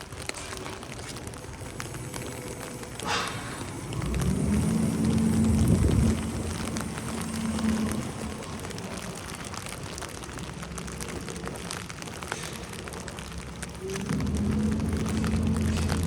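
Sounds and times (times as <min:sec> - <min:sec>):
wet snow pattering: 0:00.0 - 0:16.0
vehicle passing: 0:01.5 - 0:16.0.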